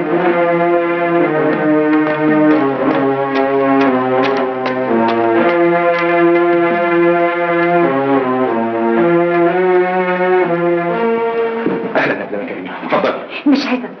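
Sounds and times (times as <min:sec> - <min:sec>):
dramatic film music chords: 0:00.0 - 0:12.6.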